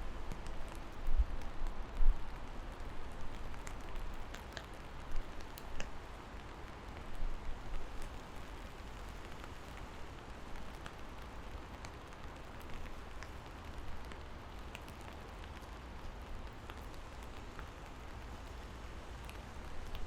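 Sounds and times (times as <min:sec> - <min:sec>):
rain falling: 0:00.0 - 0:20.0
raindrops ticking close by: 0:00.0 - 0:20.0.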